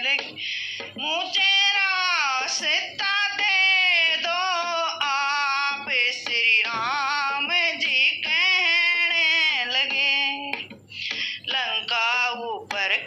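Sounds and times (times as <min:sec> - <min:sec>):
woman singing devotional song: 0:00.0 - 0:13.0.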